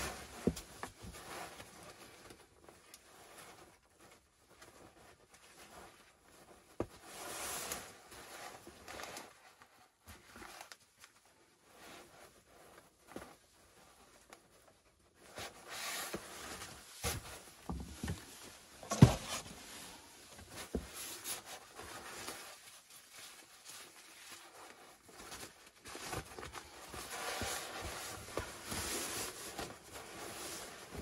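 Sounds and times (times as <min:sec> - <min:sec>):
nylon fabric rustling: 0:00.0 - 0:31.0.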